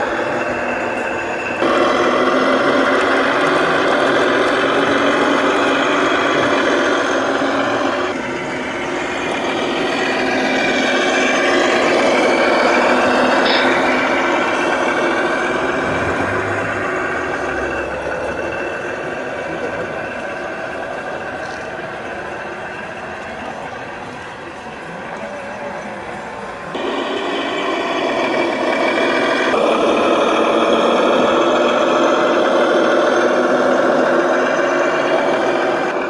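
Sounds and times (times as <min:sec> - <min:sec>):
model truck diesel engine sound: 0:00.0 - 0:36.0.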